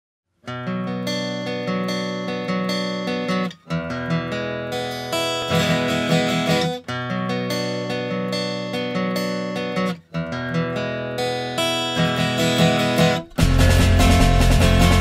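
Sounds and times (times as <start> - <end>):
strummed acoustic guitar: 0.4 - 15.0.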